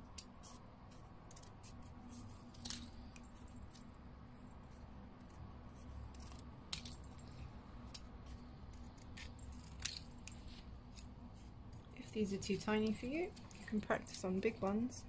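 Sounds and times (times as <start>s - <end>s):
low steady hum: 0.0s - 15.0s
scissors snipping paper: 0.0s - 15.0s.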